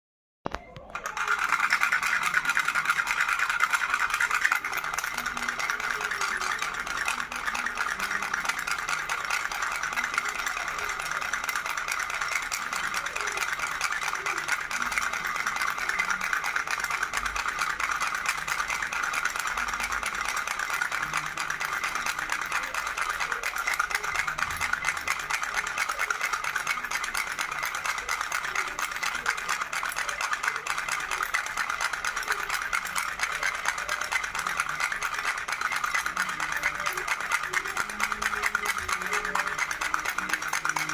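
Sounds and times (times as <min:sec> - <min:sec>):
baby rattle shaken: 0:00.8 - 0:40.9.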